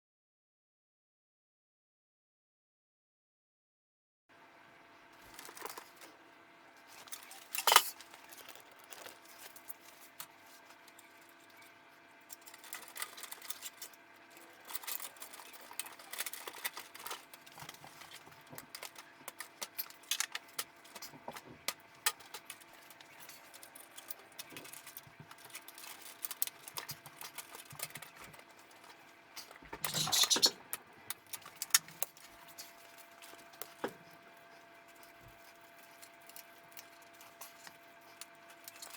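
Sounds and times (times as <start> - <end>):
clatter of computer parts: 5.2 - 6.2, 6.9 - 34.2, 35.0 - 38.9.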